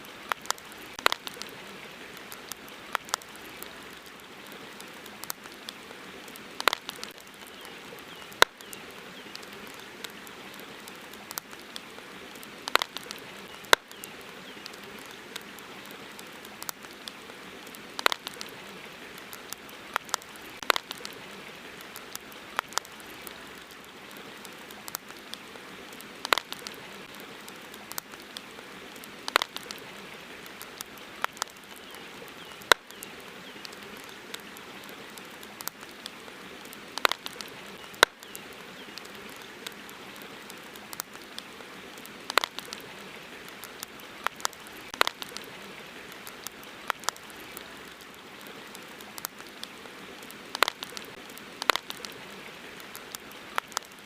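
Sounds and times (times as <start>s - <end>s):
campfire crackling and popping: 0.0s - 54.0s
river flowing: 0.0s - 54.0s.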